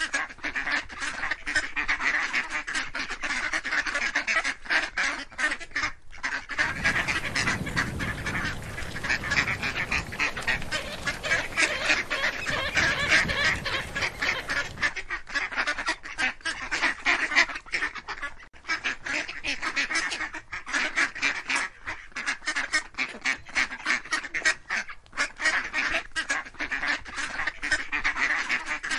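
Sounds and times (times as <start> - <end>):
ducks quacking: 0.0 - 28.9.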